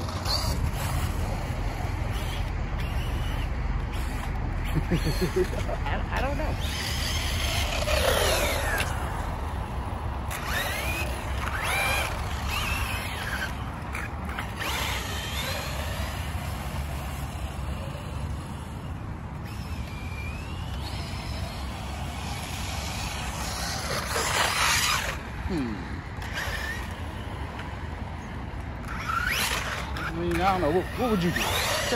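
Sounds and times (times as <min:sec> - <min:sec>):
rc car motor whining: 0:00.0 - 0:31.9.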